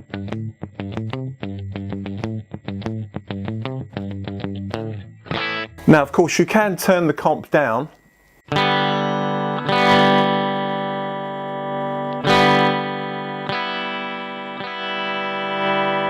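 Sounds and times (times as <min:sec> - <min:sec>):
clean electric guitar chords: 0:00.0 - 0:06.1, 0:08.5 - 0:16.0.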